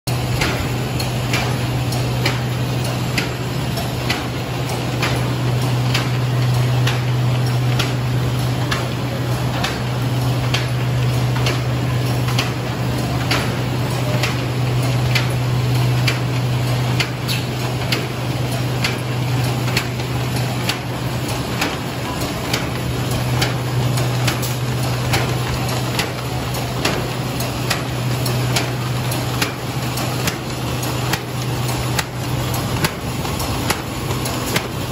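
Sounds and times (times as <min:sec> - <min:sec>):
machine low hum: 0:00.1 - 0:34.9
machine sharp clack: 0:00.1 - 0:34.9.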